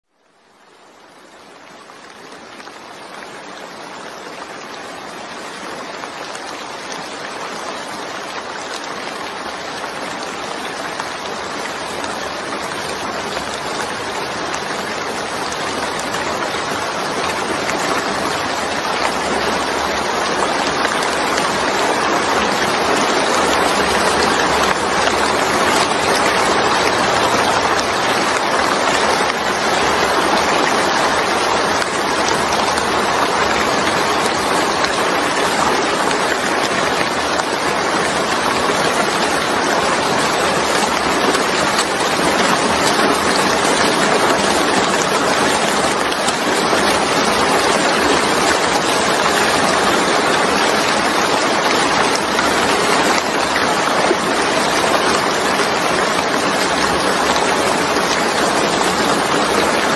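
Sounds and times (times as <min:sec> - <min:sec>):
rain falling on wet surface: 0:00.0 - 0:59.9.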